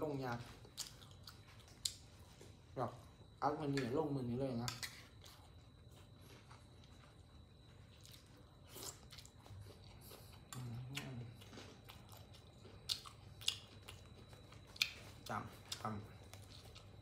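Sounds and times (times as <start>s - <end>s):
person chewing: 0.5s - 2.5s, 4.6s - 17.0s.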